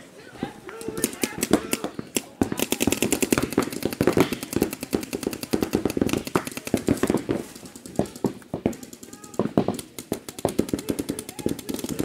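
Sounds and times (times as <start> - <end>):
paintball markers firing: 0.7 - 12.0.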